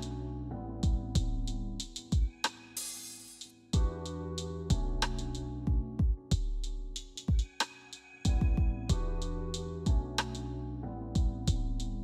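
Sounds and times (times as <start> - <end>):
electronic music with drum beat: 0.8 - 10.5, 11.2 - 12.0.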